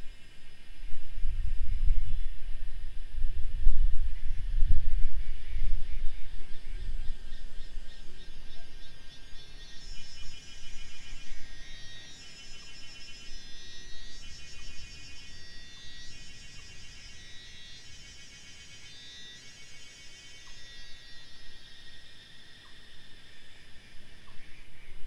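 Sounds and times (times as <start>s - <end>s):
buzzy insect calls: 0.0s - 25.0s.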